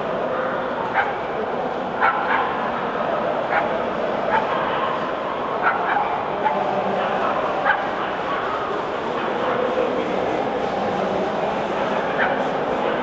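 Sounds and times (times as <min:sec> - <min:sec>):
crowd hubbub in large hall: 0:00.0 - 0:13.0.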